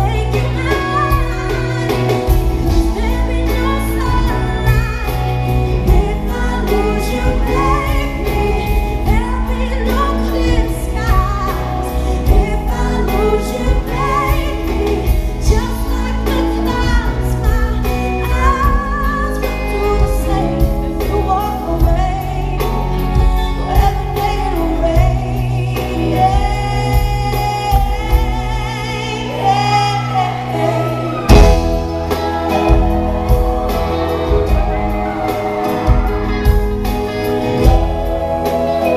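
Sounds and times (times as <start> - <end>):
band playing pop ballad: 0.0 - 38.9
woman singing with vibrato: 0.0 - 38.9.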